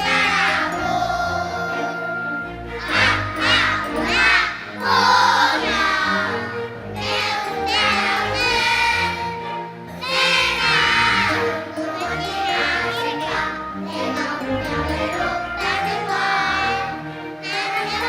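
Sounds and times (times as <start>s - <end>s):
children singing together: 0.0s - 18.0s
instrumental accompaniment with bass: 0.0s - 18.0s.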